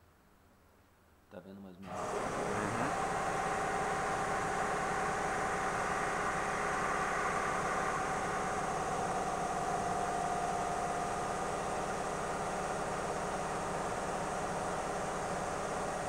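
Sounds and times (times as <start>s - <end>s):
mechanical hum with whine: 1.3s - 16.0s.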